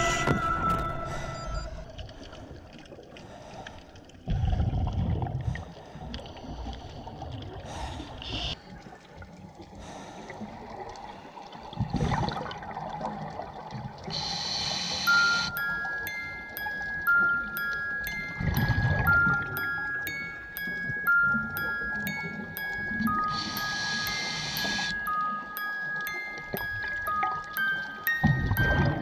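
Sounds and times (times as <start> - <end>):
faint water noise: 0.0 - 29.0.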